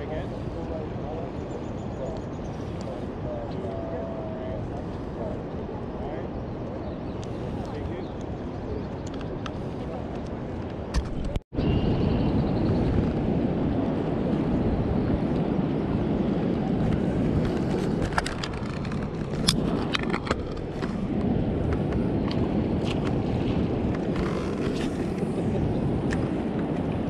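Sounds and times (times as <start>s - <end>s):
wind: 0.0s - 27.0s.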